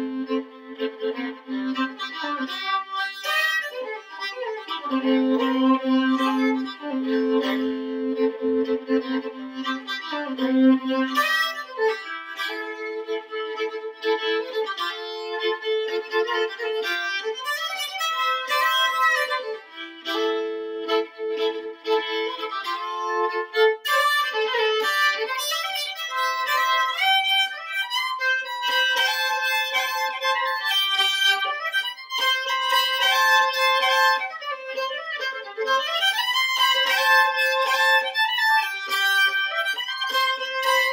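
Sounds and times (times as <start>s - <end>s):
solo fiddle playing: 0.0s - 40.9s.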